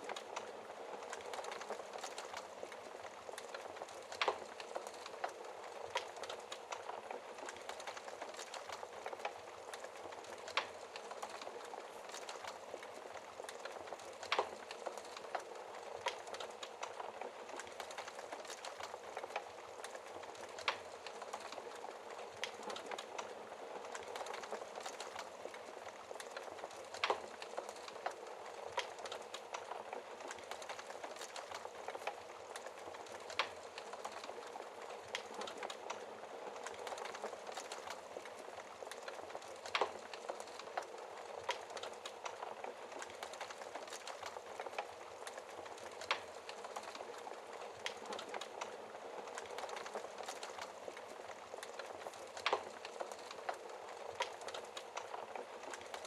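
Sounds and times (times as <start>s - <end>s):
wood fire crackling: 0.0s - 56.0s
burning logs popping: 0.1s - 56.0s.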